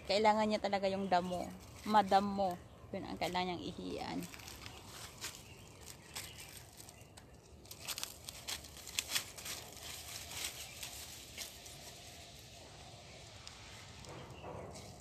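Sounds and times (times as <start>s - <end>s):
dry leaves crackling underfoot: 0.0s - 15.0s.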